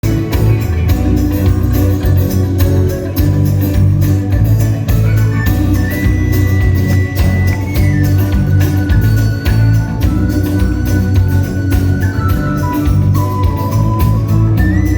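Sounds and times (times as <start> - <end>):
bass: 0.0 - 14.9
drumbeat: 0.0 - 14.9
organ: 0.0 - 14.9.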